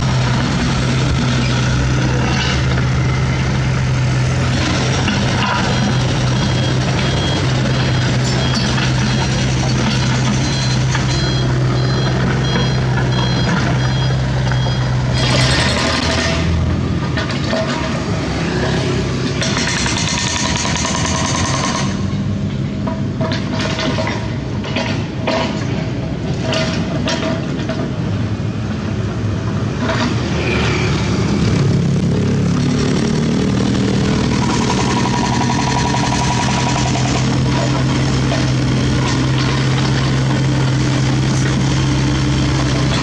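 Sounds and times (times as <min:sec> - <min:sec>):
diesel engine hum: 0:00.0 - 0:43.0
street traffic: 0:00.0 - 0:43.0.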